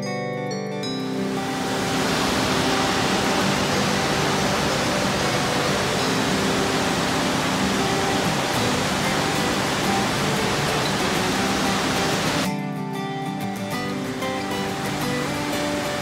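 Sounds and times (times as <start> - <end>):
waterfall rushing: 1.0 - 12.5, 13.8 - 16.0.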